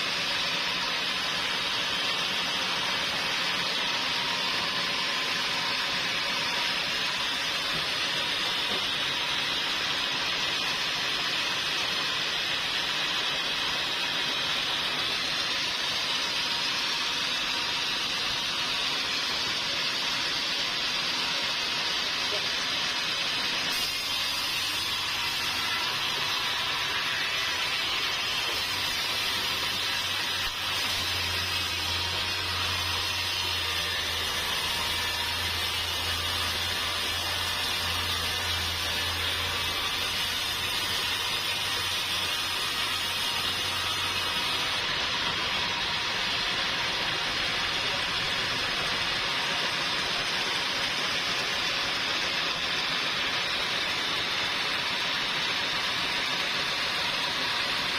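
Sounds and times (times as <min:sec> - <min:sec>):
sawmill machinery hissing: 0:00.0 - 0:57.9.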